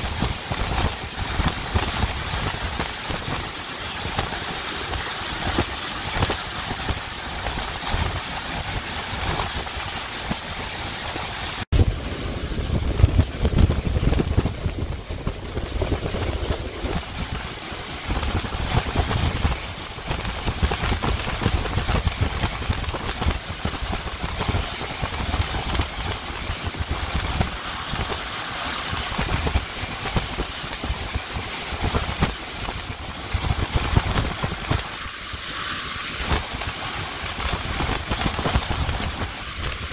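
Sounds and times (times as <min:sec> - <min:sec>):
wind buffeting on microphone: 0:00.0 - 0:39.9
wind howling in gusts: 0:00.0 - 0:39.9.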